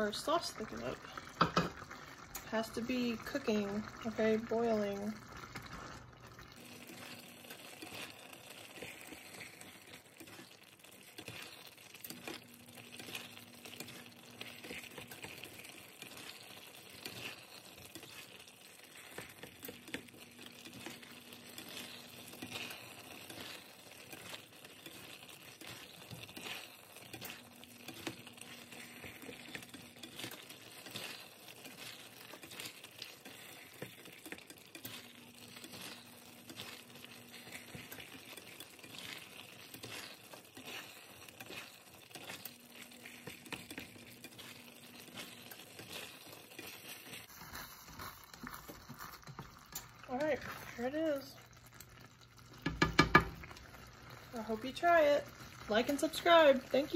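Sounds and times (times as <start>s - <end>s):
faint crackling and clicks: 0.0s - 56.9s
sauce bubbling in a skillet: 0.0s - 56.9s
spatula stirring and scraping: 0.0s - 56.9s.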